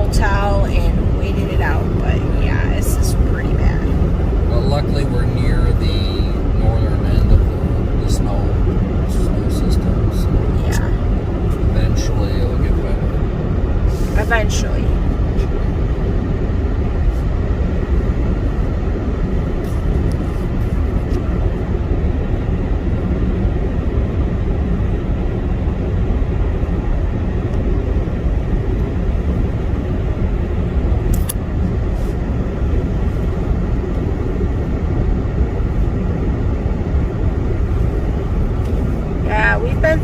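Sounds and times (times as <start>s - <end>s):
car cabin road noise: 0.0s - 40.0s.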